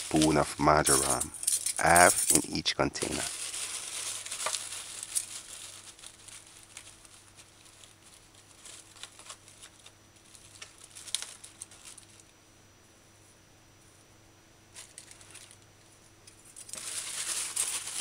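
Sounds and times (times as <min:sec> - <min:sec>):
plastic bag crinkling: 0:00.0 - 0:12.3, 0:14.8 - 0:15.6, 0:16.4 - 0:18.0.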